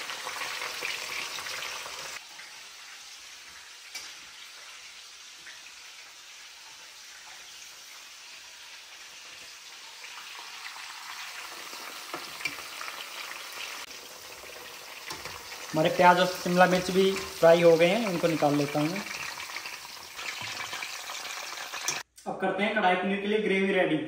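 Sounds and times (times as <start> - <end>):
vegetables sizzling in hot oil: 0.0 - 22.1.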